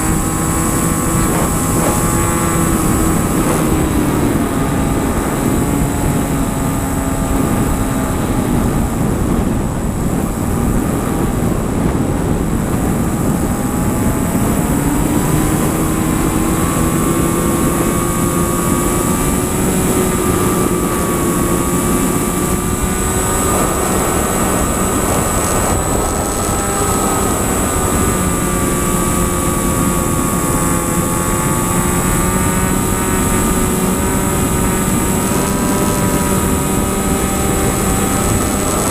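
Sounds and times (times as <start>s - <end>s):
airplane engine droning: 0.0s - 38.9s
rushing air noise: 0.0s - 38.9s.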